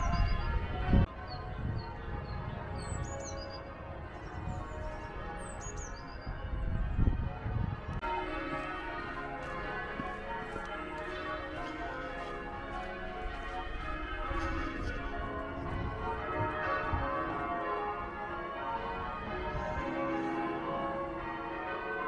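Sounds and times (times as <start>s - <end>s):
church bells pealing: 0.0s - 22.0s.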